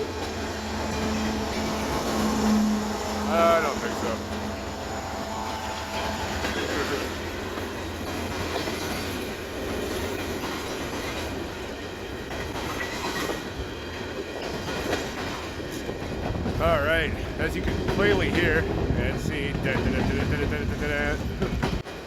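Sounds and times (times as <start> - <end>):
freight cars rumbling on rails: 0.0 - 22.0.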